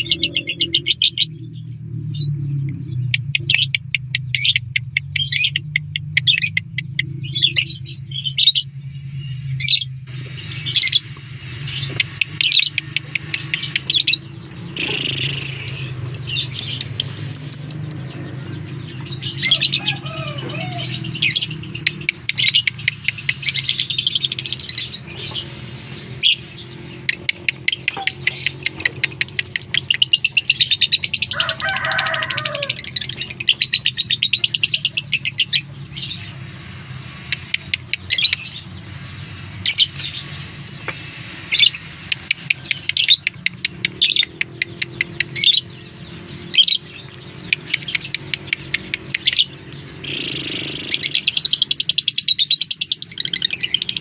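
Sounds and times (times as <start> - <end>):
lovebird chattering song: 3.0 - 8.6, 9.6 - 36.5, 41.5 - 54.0.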